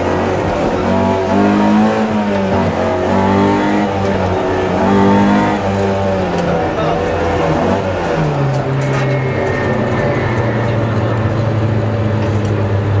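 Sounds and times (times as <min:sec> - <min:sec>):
car engine from inside cabin: 0:00.0 - 0:13.0.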